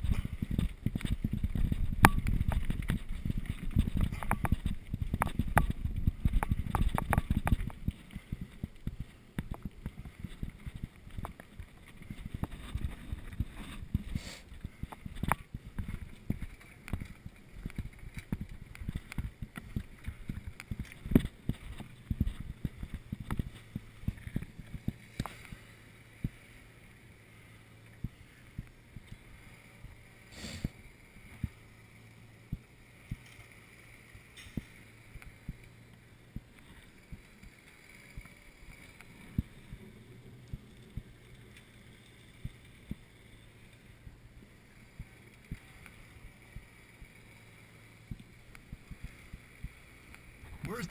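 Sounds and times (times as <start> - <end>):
low steady rumble: 0.0 - 50.9
mountain bike rattling on trail: 0.0 - 50.9.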